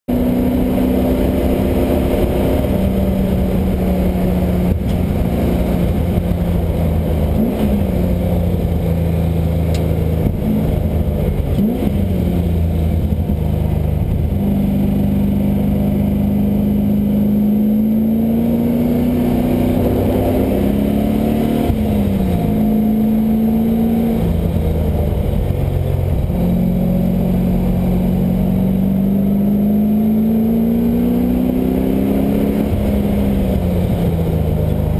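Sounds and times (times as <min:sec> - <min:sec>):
car engine revving through gears: 0:00.1 - 0:34.9.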